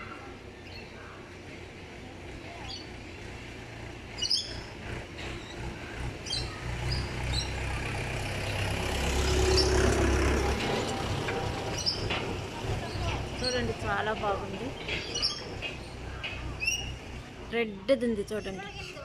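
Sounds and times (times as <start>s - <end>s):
low engine rumble: 0.0s - 19.0s
small birds chirping: 0.1s - 3.3s, 4.0s - 10.1s, 11.7s - 19.0s.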